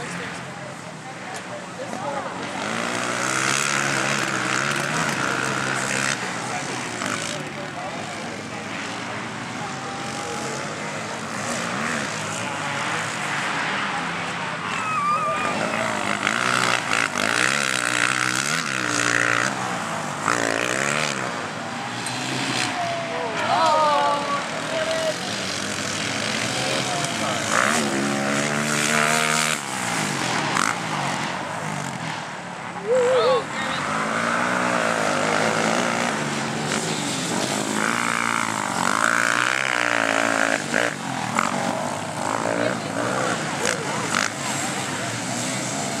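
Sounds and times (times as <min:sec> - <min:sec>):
quad engine revving hard: 0:02.3 - 0:14.2, 0:14.8 - 0:32.1, 0:33.5 - 0:46.0.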